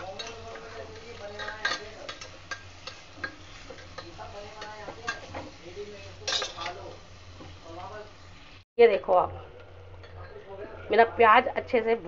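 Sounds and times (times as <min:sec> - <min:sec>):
onions frying in oil: 0:00.0 - 0:12.0.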